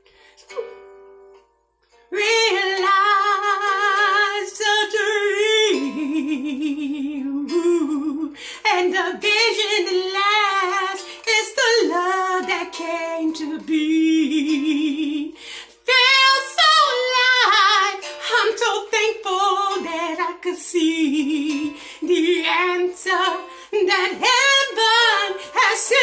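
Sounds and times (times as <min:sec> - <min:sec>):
plucked string notes: 0:00.0 - 0:26.0
woman singing long vibrato notes: 0:02.1 - 0:26.0.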